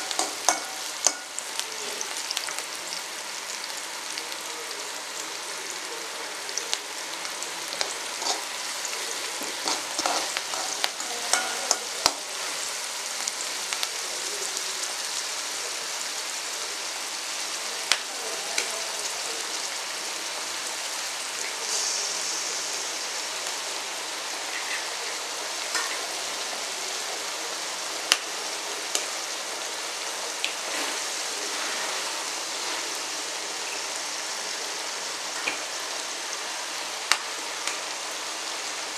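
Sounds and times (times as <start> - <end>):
onions sizzling in oil: 0.0 - 38.9.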